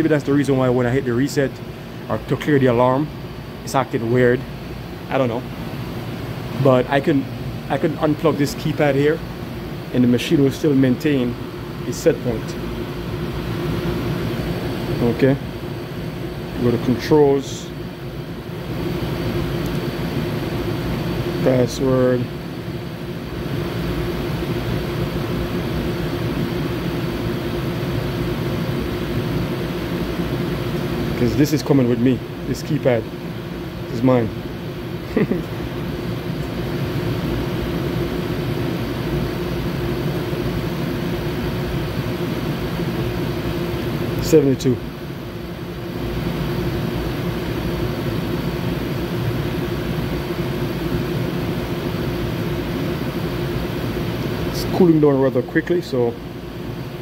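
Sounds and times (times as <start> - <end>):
air conditioner hum: 0.0 - 57.0
fan air rushing: 0.0 - 57.0.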